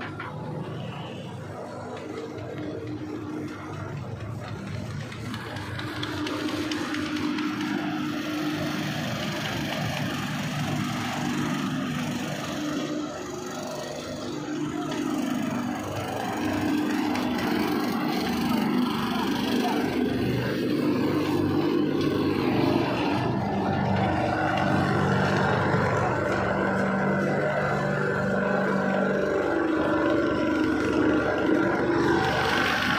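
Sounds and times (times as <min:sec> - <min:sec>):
machinery humming: 0:00.0 - 0:32.9.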